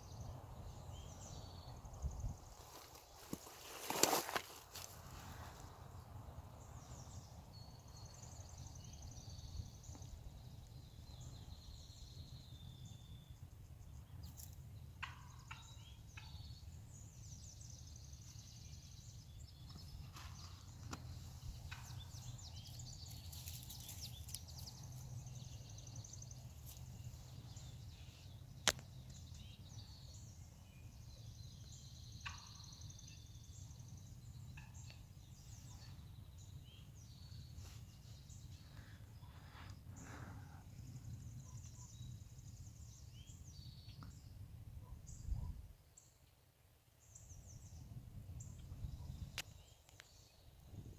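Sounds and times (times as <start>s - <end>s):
small birds singing: 0.0s - 50.9s.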